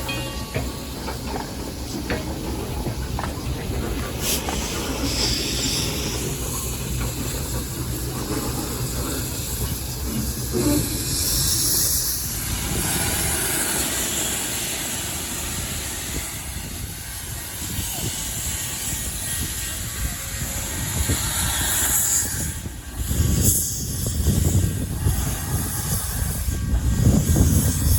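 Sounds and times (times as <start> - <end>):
train rumbling on rails: 0.0 - 27.9
hiss: 0.6 - 27.9.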